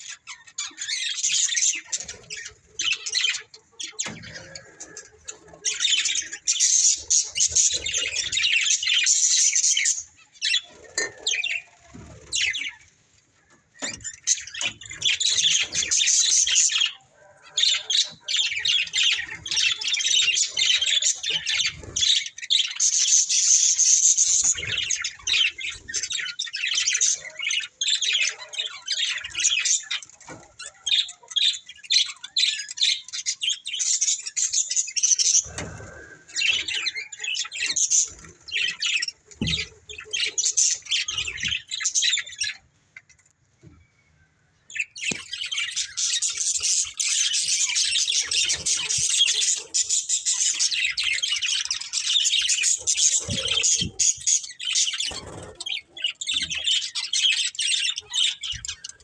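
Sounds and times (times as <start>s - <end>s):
budgerigars chattering and chirping: 0.0s - 43.4s, 44.7s - 59.0s.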